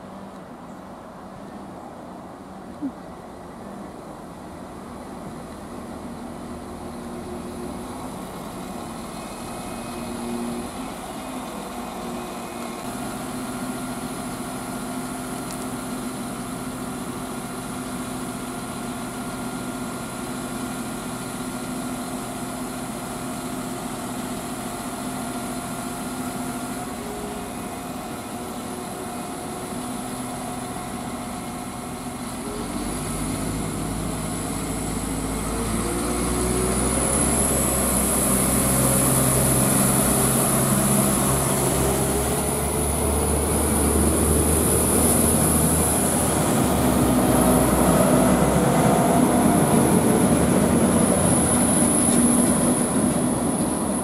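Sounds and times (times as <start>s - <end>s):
diesel train engines idling: 0.0s - 54.0s.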